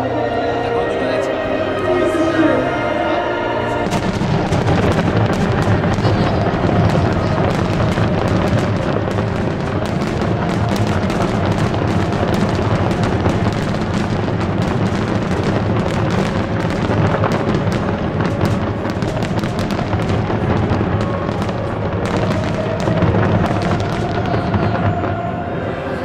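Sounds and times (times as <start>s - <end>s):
fireworks bangs and crackles: 3.6s - 26.0s.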